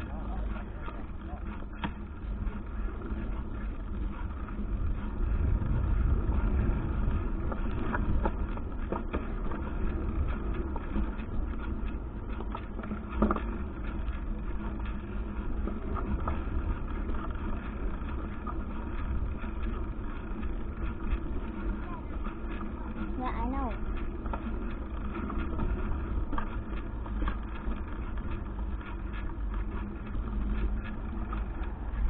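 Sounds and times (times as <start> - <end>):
bike knocks and rattles: 0.0 - 32.0
rolling tyre noise: 0.0 - 32.0
wind rumbling on microphone: 0.0 - 32.0.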